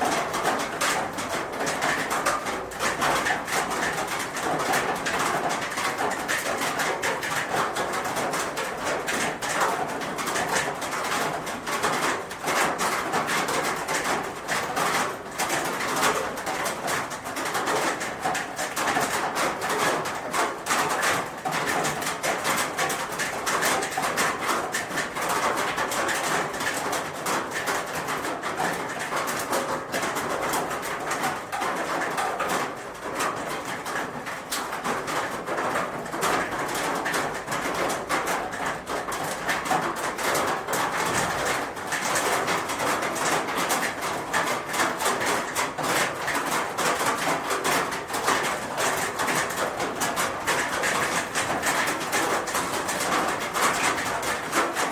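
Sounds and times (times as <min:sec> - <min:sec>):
rain on a roof: 0:00.0 - 0:54.9.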